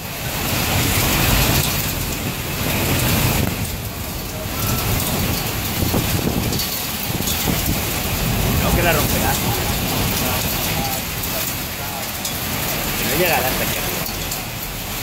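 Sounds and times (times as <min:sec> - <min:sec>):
heavy rain: 0:00.0 - 0:15.0
rushing wind: 0:00.0 - 0:15.0.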